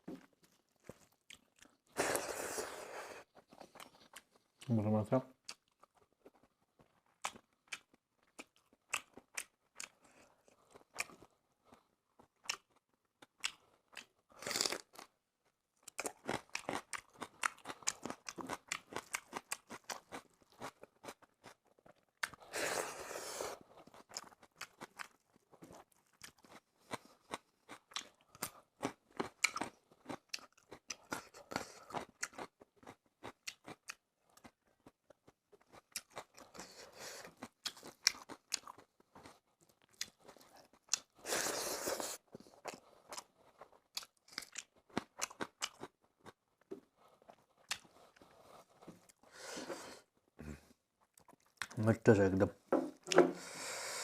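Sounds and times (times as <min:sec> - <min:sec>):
chewing and crunching food: 0:00.0 - 0:52.2.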